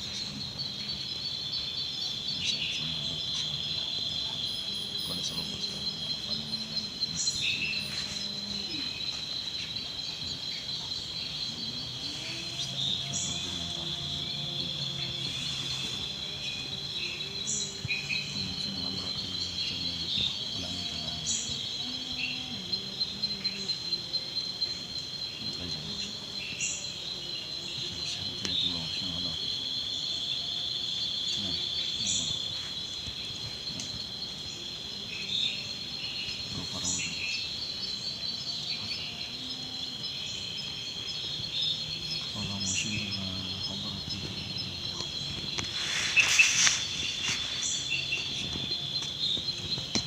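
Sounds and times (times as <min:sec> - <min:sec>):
insects trilling: 0:00.0 - 0:50.0
faint murmur of voices: 0:02.2 - 0:50.0.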